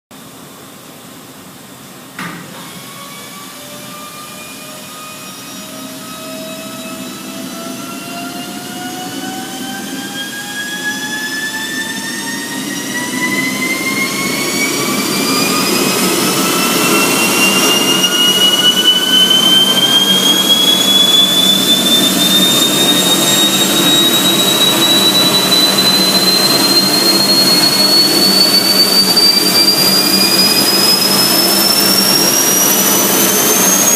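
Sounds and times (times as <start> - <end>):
engine spooling up whine: 2.2 - 33.9.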